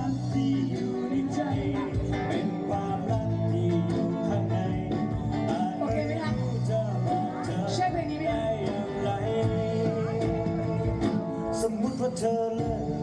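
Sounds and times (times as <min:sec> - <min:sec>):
drum kit: 0:00.0 - 0:13.0
guitars: 0:00.0 - 0:13.0.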